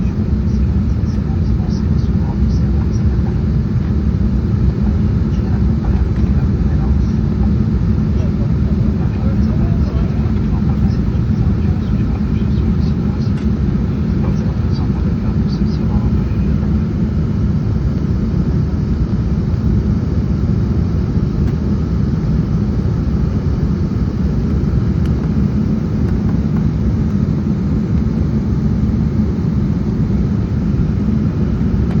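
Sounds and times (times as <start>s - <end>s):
airliner cabin roar: 0.0s - 32.0s.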